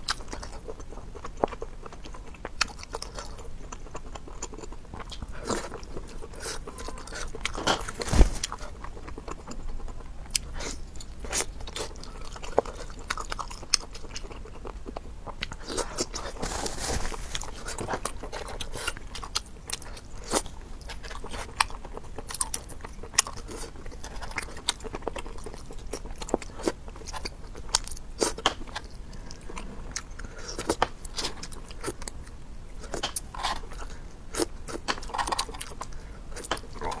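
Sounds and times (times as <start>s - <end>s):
person chewing with crunches: 0.0s - 37.0s.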